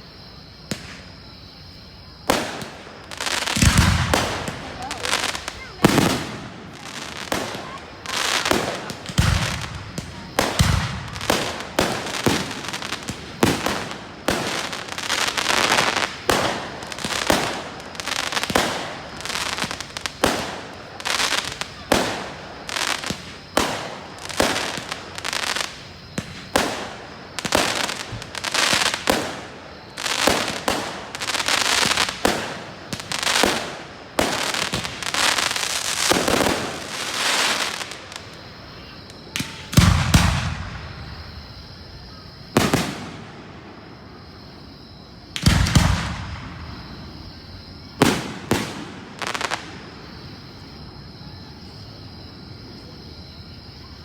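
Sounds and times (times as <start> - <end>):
fireworks bangs and crackling: 0.0 - 44.5, 45.2 - 53.0
deep fireworks booms: 0.6 - 44.6, 45.2 - 50.9.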